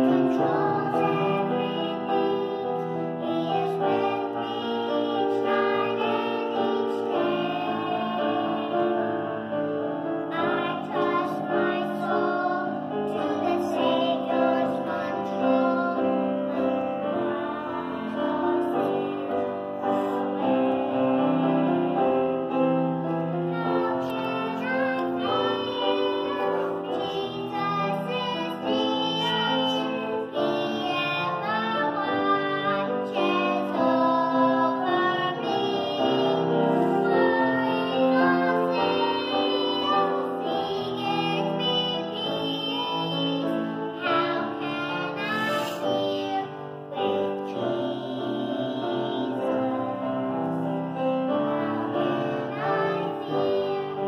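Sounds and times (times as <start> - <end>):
girls singing a duet: 0.0 - 54.0
musical accompaniment: 0.0 - 54.0.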